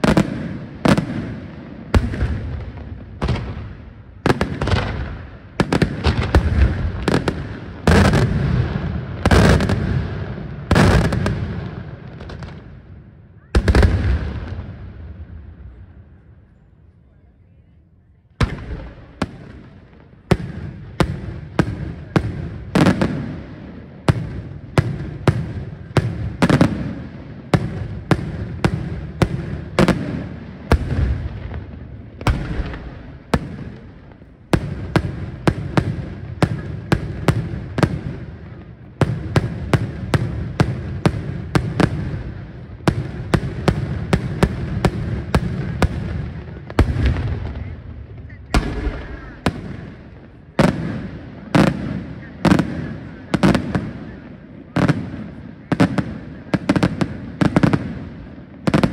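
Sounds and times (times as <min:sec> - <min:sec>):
fireworks bursting with sharp bangs: 0:00.0 - 0:16.4, 0:18.3 - 0:58.9.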